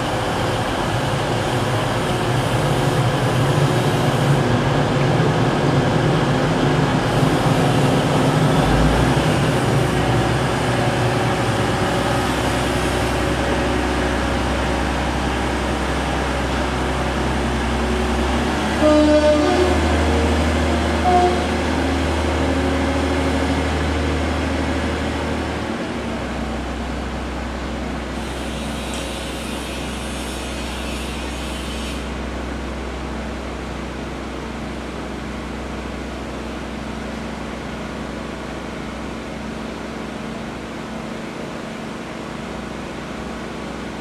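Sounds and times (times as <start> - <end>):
train diesel engine idling: 0.0 - 44.0.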